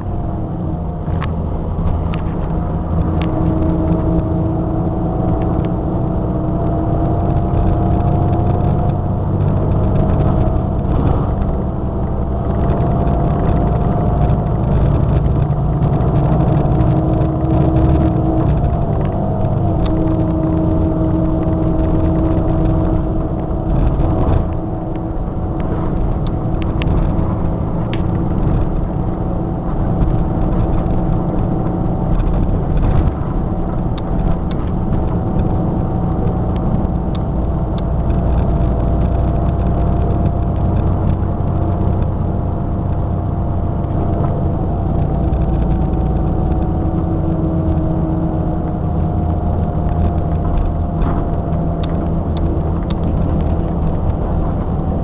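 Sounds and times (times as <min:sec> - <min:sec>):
diesel bus engine rumble: 0:00.0 - 0:55.0.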